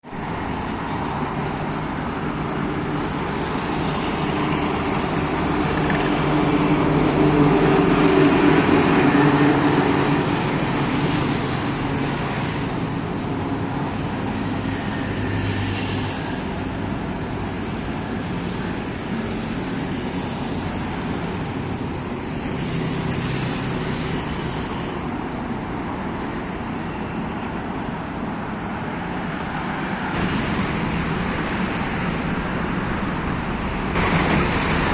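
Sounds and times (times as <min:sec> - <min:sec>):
highway traffic noise: 0:00.0 - 0:34.9.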